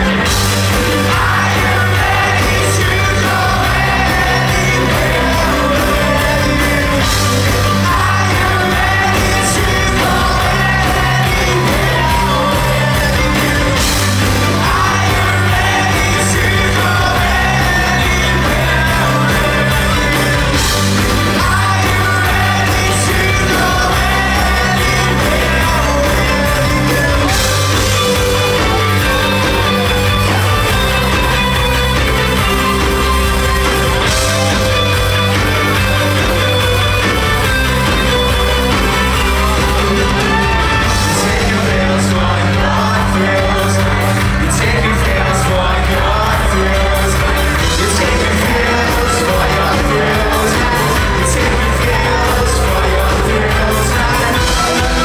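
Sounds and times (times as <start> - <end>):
rock band playing live: 0.0 - 55.0
singer singing: 0.0 - 55.0.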